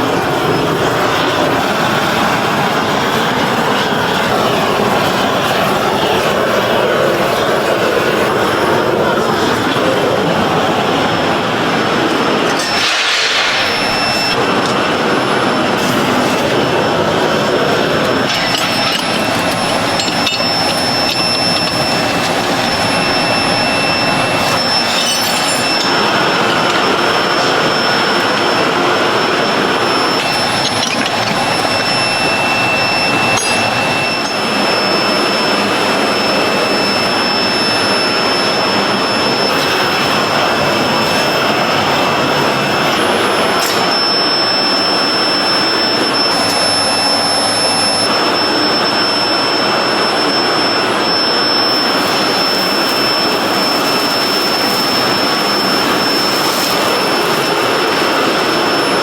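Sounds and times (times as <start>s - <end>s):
factory machinery noise: 0.0s - 59.0s
thin high whines: 0.0s - 59.0s.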